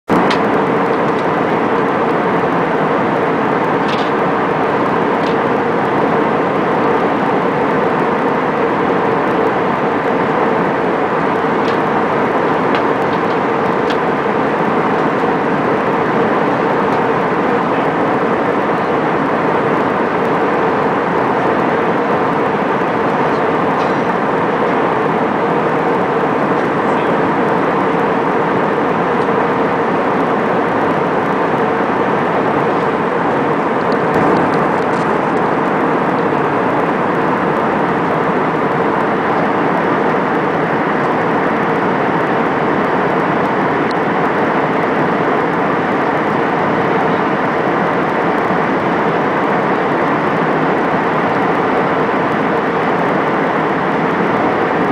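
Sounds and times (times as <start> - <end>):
jet cabin engine and air noise: 0.1 - 54.9.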